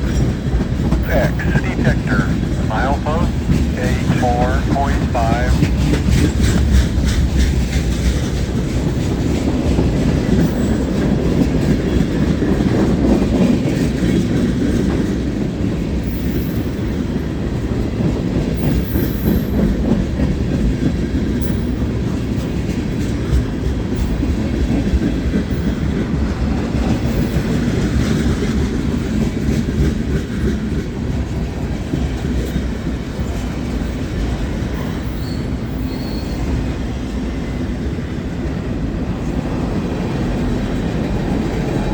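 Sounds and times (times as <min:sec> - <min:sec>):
freight train wheels rumbling: 0:00.0 - 0:41.9
wheels clickety-clack on rail joints: 0:05.6 - 0:41.9.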